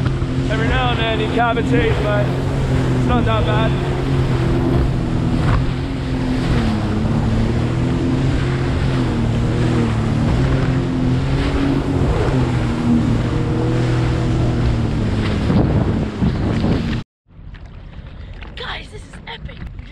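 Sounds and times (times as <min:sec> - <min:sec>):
personal watercraft engine drone: 0:00.0 - 0:19.9
wind on microphone: 0:00.0 - 0:19.9.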